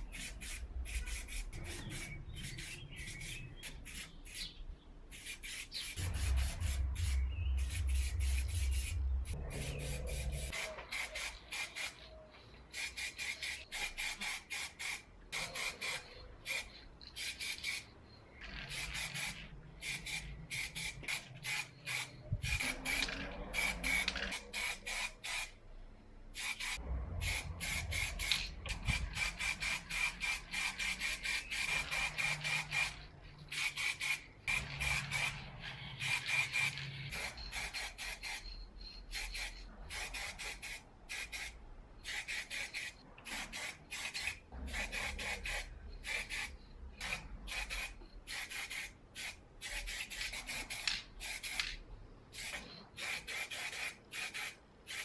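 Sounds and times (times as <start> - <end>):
spray paint can hissing: 0.0 - 25.6, 26.3 - 55.0.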